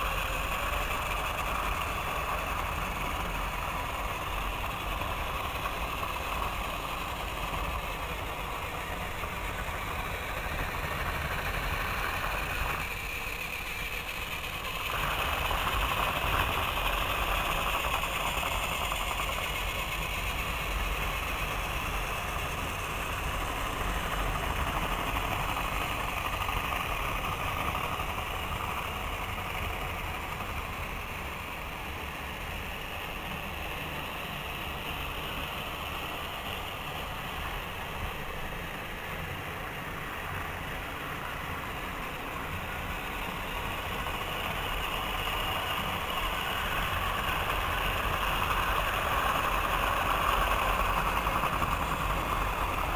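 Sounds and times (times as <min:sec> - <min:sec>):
toy train motors whirring: 0:00.0 - 0:52.9.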